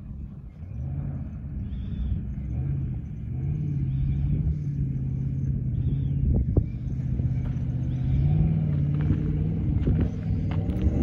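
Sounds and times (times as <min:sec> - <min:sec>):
distant engine pulling uphill: 0:00.0 - 0:11.0
low rumble: 0:00.0 - 0:11.0.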